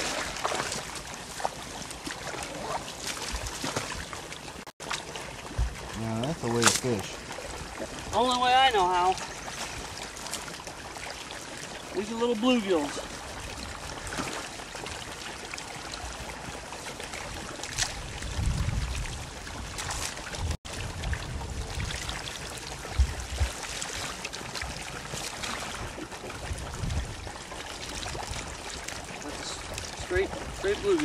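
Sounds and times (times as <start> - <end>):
pond water sloshing and splashing: 0.0 - 31.0.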